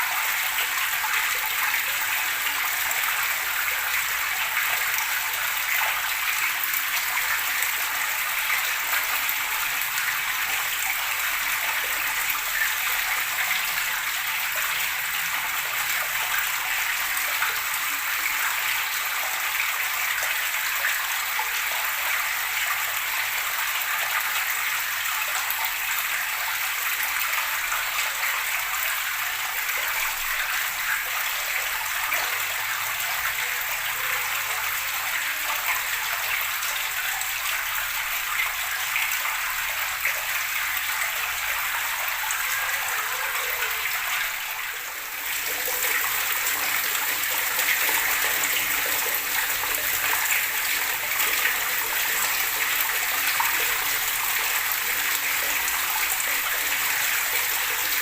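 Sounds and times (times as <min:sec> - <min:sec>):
gurgling flowing water: 0:00.0 - 0:58.0.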